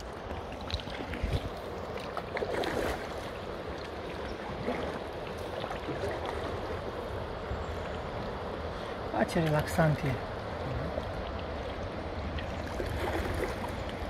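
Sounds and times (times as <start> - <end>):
paddles splashing in water: 0.0 - 8.4, 9.4 - 14.0
water lapping against kayak: 0.0 - 14.0.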